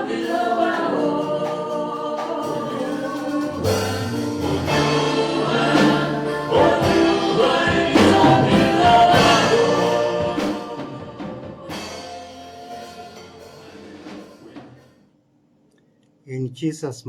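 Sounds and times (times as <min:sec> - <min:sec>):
choir singing gospel song: 0:00.0 - 0:14.9
drums: 0:00.0 - 0:15.0.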